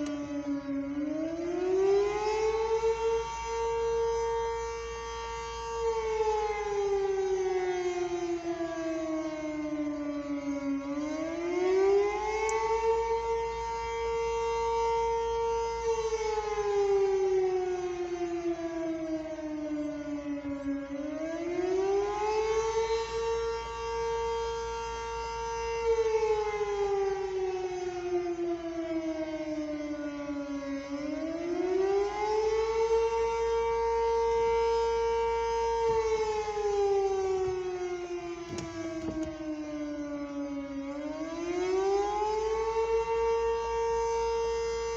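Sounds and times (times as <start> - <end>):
tornado siren wailing: 0.0 - 44.9.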